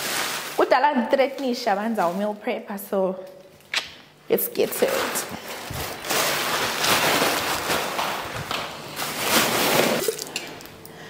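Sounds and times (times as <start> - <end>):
plastic packaging rustling: 0.0 - 2.6, 4.4 - 10.8.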